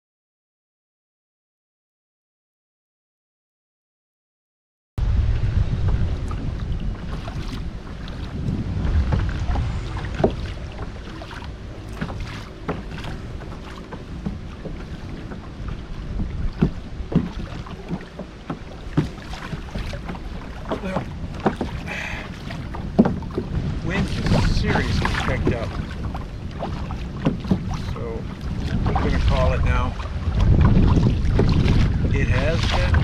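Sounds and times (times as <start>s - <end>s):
waves slapping kayak hull: 5.0s - 33.0s
wind buffeting microphone: 5.0s - 33.0s.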